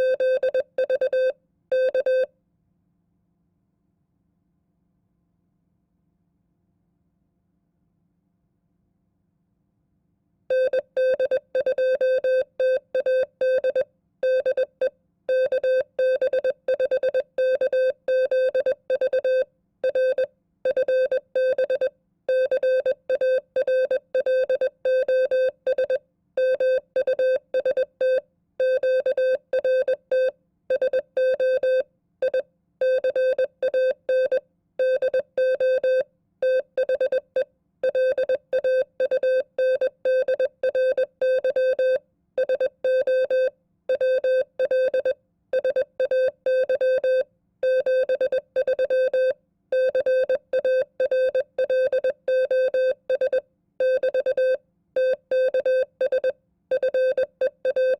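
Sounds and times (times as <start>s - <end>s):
morse code tone: 0.0s - 2.3s, 10.6s - 37.2s, 37.9s - 57.9s.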